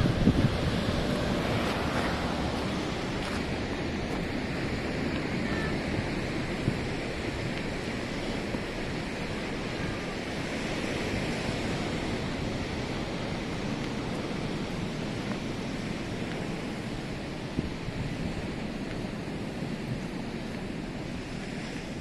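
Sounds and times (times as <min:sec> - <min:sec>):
ocean surf washing: 0:00.0 - 0:22.0
wind rumbling on microphone: 0:00.0 - 0:22.0.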